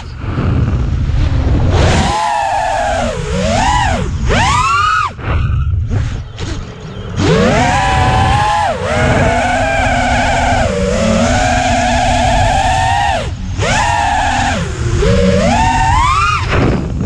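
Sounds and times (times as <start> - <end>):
wind rumble on microphone: 0.0 - 4.5, 7.2 - 17.0
drone motors whining: 0.0 - 17.0.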